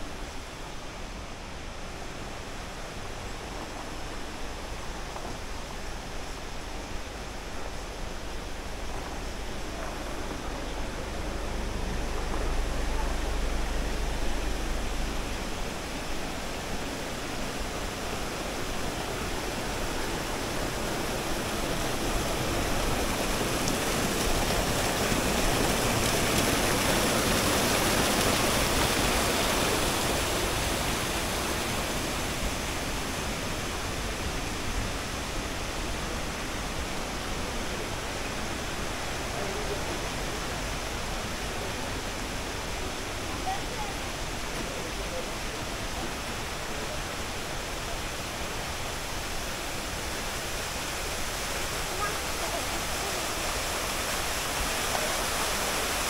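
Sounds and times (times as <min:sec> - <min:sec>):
stream rushing over cascades: 0:00.0 - 0:56.0.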